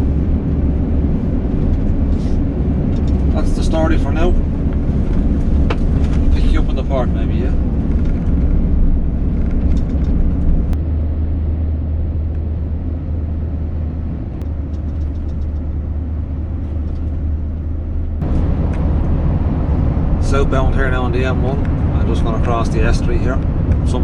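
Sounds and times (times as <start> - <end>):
lorry engine rumbling: 0.0 - 24.0
road noise: 0.0 - 24.0.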